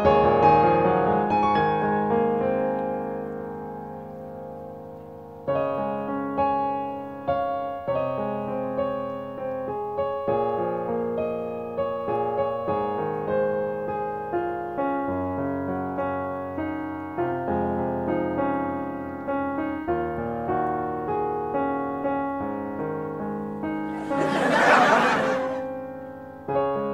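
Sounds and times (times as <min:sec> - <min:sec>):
calm piano melody: 0:00.0 - 0:26.9.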